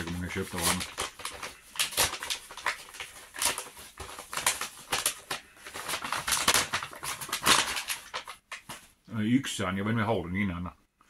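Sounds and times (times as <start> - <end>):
paper wrapping crinkling: 0.0 - 9.0.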